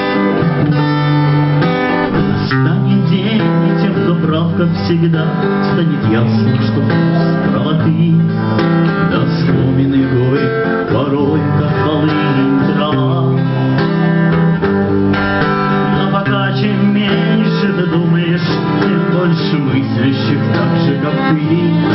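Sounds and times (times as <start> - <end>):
acoustic guitar strumming chords: 0.0 - 21.9.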